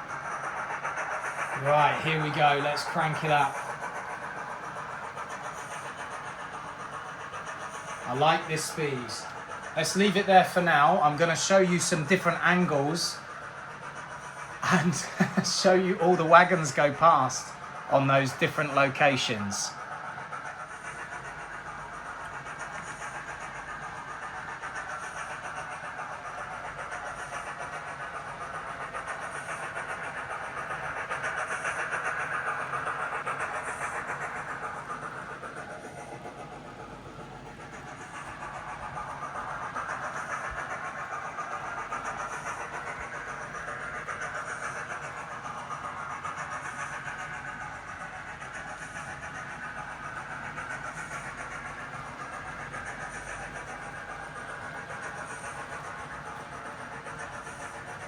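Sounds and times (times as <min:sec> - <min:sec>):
model train wheels rattling: 0:00.0 - 0:58.0.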